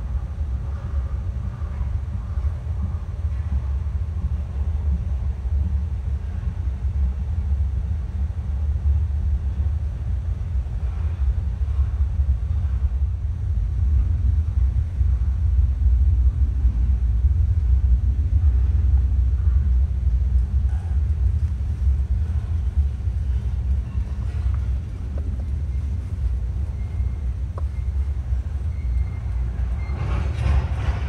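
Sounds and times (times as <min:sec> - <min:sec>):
freight train rumbling: 0:00.0 - 0:31.0.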